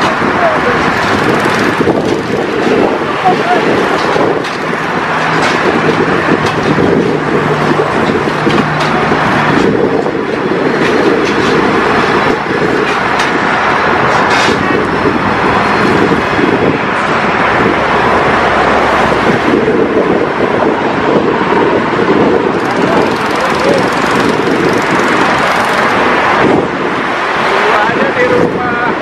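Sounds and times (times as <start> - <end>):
loud machinery noise: 0.0 - 29.0.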